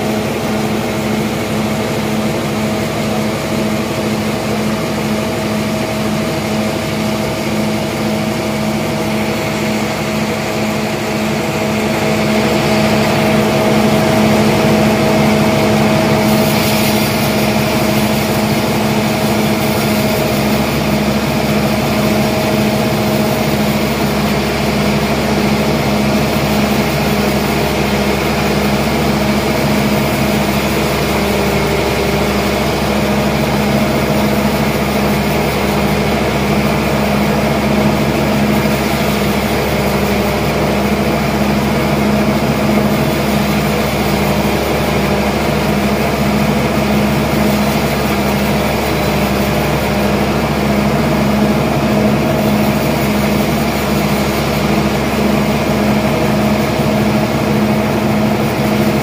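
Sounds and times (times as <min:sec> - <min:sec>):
band sawmill humming: 0:00.0 - 0:59.0.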